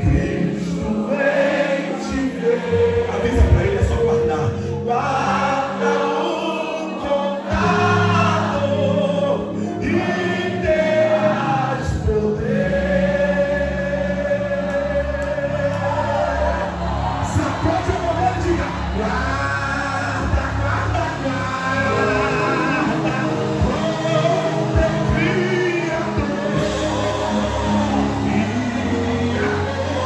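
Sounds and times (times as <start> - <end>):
instrumental accompaniment with bass: 0.0 - 30.0
voices singing together: 0.0 - 30.0.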